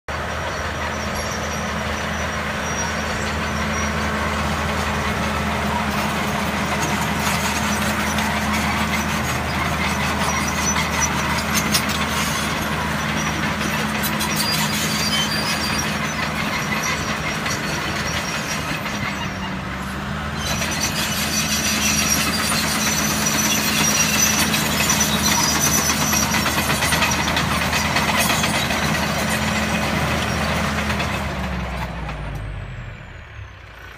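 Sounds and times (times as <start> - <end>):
heavy machine engine running: 0.1 - 33.9
clatter: 4.8 - 32.6.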